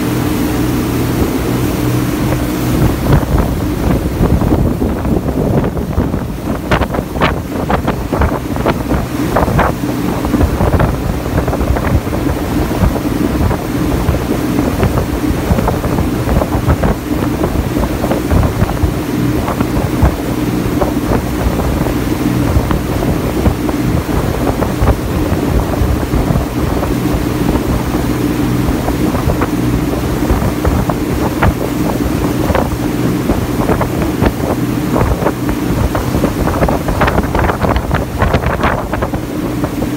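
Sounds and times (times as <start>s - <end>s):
water rushing past hull: 0.0s - 39.9s
wind on microphone: 0.0s - 39.9s.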